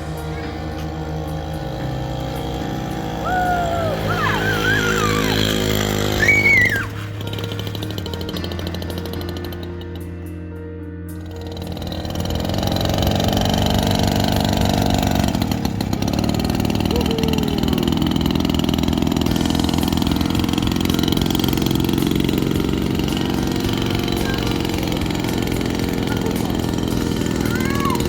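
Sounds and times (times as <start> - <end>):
high engine whine: 0.0 - 10.2, 11.2 - 28.0
mini bike engine running: 0.0 - 10.2, 11.2 - 28.0.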